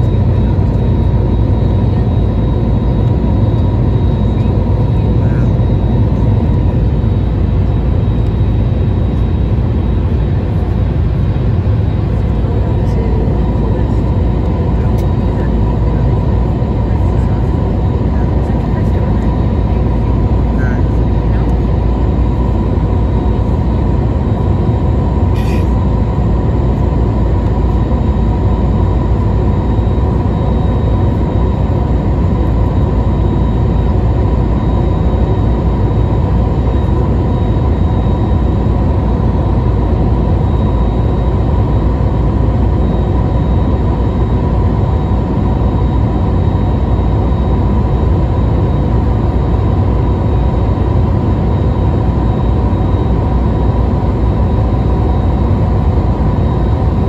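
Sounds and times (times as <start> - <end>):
airplane engines and airflow rushing: 0.0 - 57.0
steady whine: 0.0 - 57.0.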